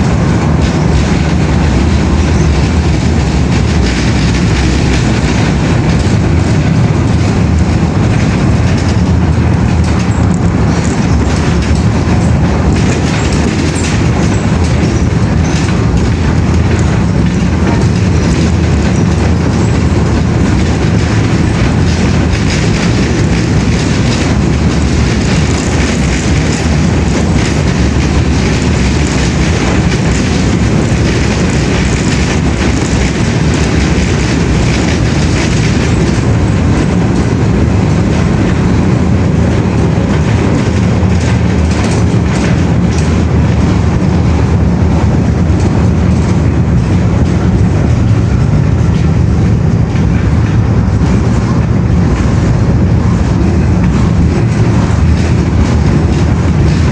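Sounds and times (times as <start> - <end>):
moving train rumble: 0.0 - 56.9.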